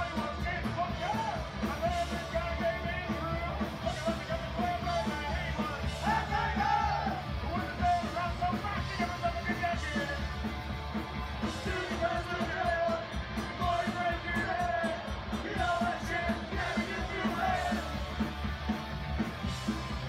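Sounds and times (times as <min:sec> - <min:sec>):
shouted singing: 0:00.0 - 0:10.2, 0:11.4 - 0:18.2
electric guitars: 0:00.0 - 0:20.0
fast drum beat: 0:00.0 - 0:20.0.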